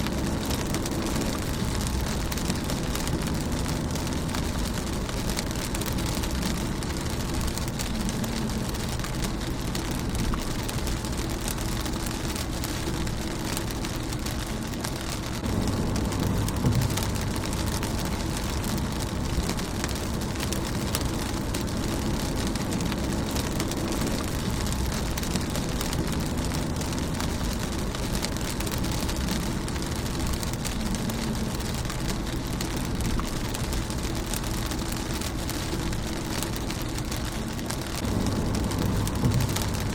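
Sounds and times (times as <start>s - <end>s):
low rumble: 0.0s - 39.9s
rain on a car windshield: 0.0s - 39.9s.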